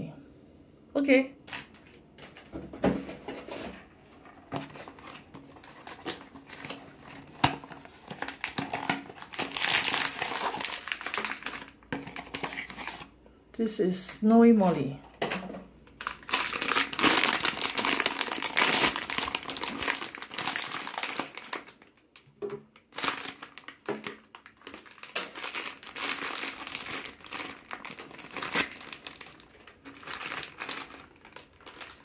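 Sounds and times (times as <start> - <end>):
foil and plastic bags crinkling: 1.4 - 2.6, 3.2 - 13.2, 14.0 - 32.0.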